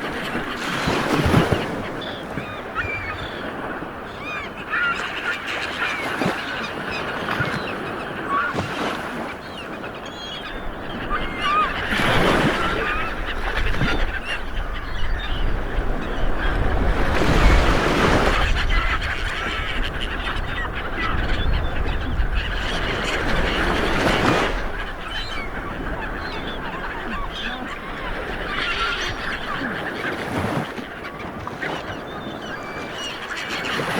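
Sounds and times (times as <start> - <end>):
sea waves breaking: 0.0 - 33.9
birds honking calls: 0.3 - 33.9.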